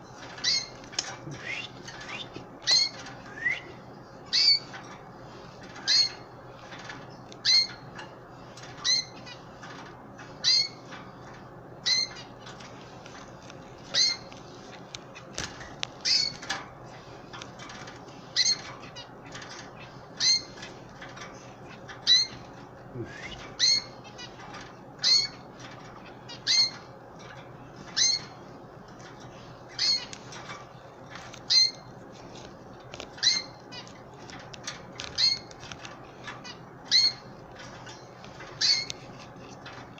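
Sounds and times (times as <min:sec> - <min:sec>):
canary chirping: 0:00.2 - 0:05.0, 0:05.6 - 0:12.7, 0:13.8 - 0:16.6, 0:17.5 - 0:39.9.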